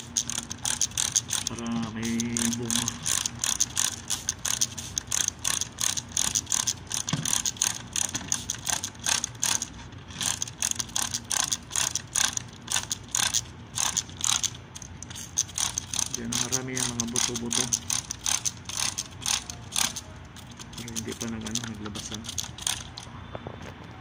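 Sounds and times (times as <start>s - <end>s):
spray bottle pumping: 0.0s - 23.1s.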